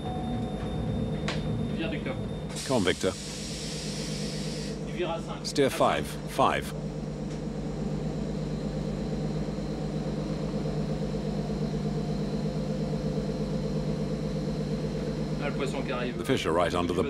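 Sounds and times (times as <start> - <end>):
boat engine hum: 0.0 - 17.0.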